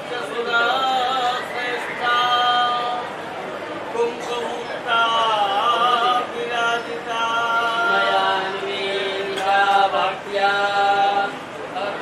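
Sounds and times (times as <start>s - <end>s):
devotional chant: 0.0s - 3.2s, 3.9s - 12.0s.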